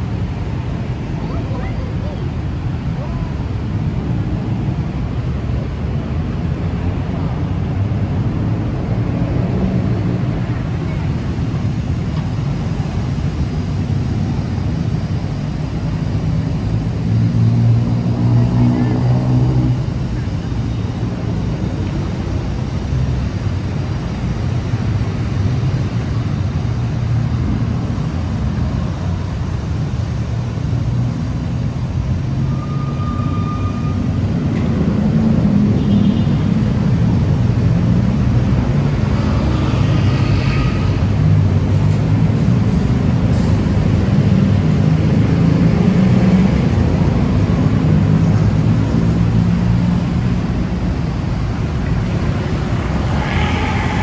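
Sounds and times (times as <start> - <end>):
cars and motorbikes passing: 0.0 - 54.0.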